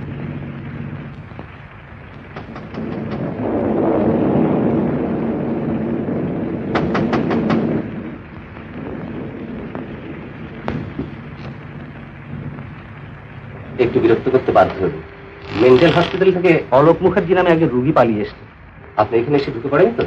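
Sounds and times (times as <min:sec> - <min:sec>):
film soundtrack hiss: 0:00.0 - 0:20.0
rolling thunder: 0:00.0 - 0:20.0
sharp crackles: 0:00.0 - 0:20.0.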